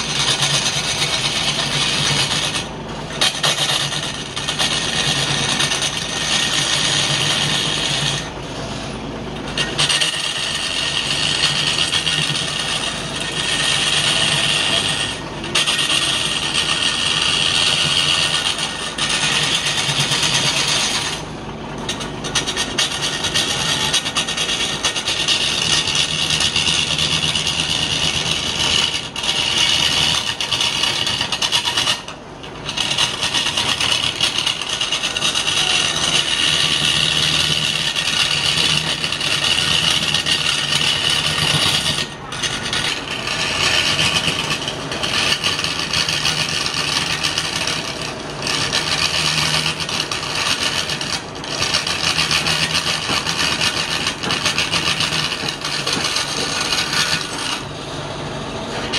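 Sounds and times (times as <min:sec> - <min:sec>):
lathe humming: 0:00.0 - 0:58.9
turning tool scraping wood: 0:00.0 - 0:58.9.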